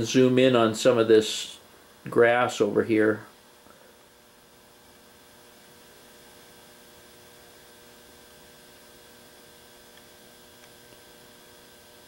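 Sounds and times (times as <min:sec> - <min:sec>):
faint electrical hum with hiss: 0:00.0 - 0:12.0.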